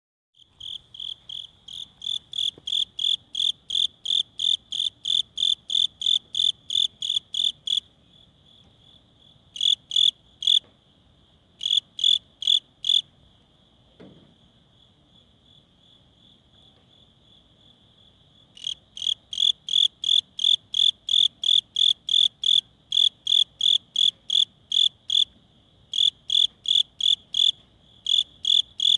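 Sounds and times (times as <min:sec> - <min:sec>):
cricket chirping: 0:00.4 - 0:28.9.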